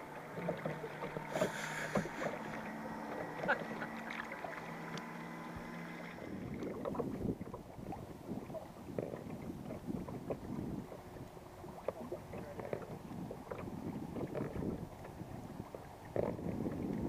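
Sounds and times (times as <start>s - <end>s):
steady hum of held tones: 0.0s - 17.0s
water lapping and sloshing: 0.0s - 17.0s.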